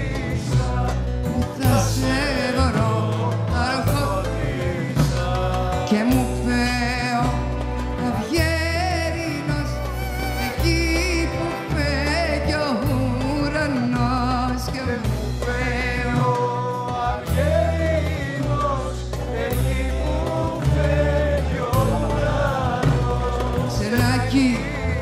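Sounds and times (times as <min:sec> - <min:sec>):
band playing popular music: 0:00.0 - 0:25.0
sustained bass: 0:00.0 - 0:25.0.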